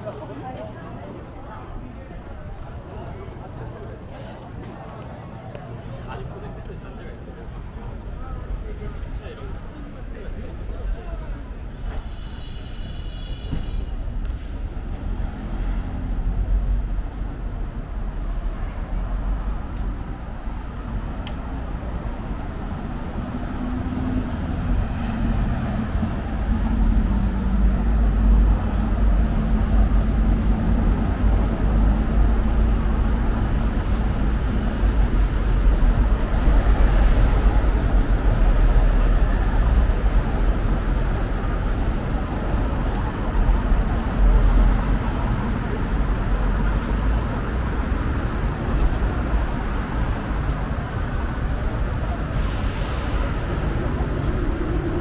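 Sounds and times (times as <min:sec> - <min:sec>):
passing traffic rumble: 0:00.0 - 0:55.0.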